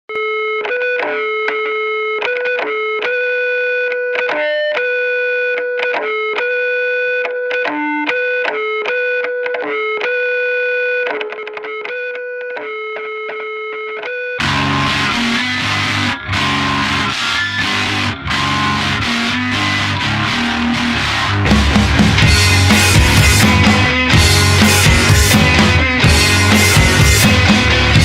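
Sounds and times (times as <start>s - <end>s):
electric guitar riff with effects: 0.1s - 28.0s.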